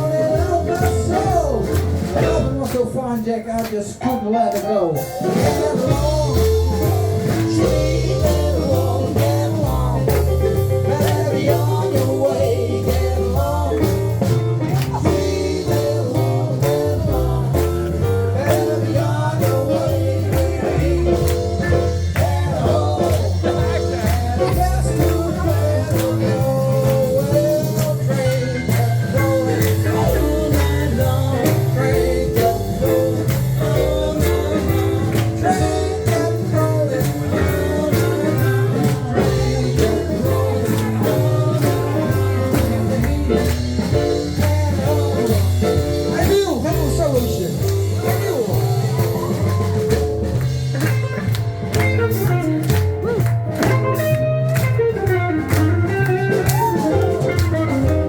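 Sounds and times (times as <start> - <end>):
live rock and roll band: 0.0 - 58.0.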